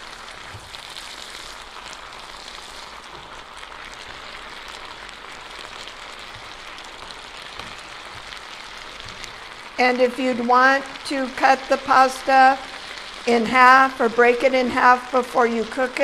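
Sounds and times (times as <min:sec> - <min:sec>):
food sizzling in skillet: 0:00.0 - 0:16.0.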